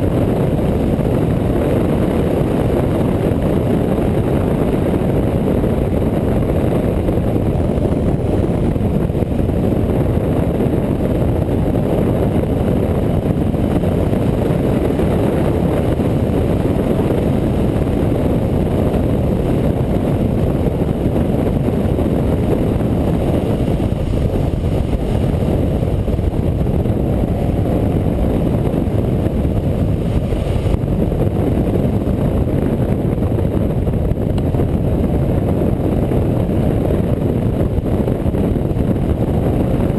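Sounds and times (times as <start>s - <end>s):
motorcycle engine rumble: 0.0s - 39.9s
wind rush: 0.0s - 39.9s.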